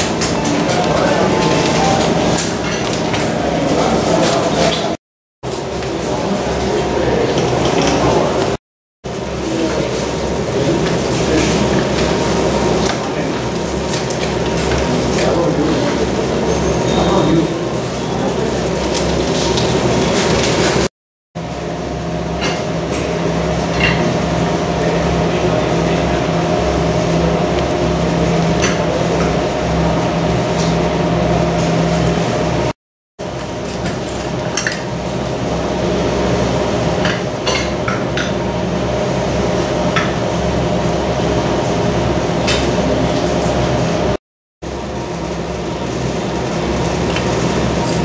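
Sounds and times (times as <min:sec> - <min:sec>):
mechanical hum of equipment: 0:00.0 - 0:48.0.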